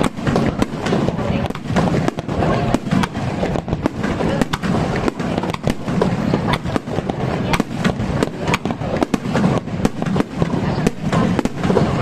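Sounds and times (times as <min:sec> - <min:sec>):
fireworks bangs and cracks: 0:00.0 - 0:12.0
fireworks rumble: 0:00.0 - 0:12.0.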